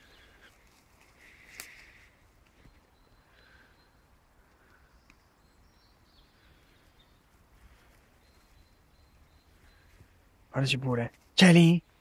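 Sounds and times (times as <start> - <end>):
faint high bird chirps: 1.2 - 10.8.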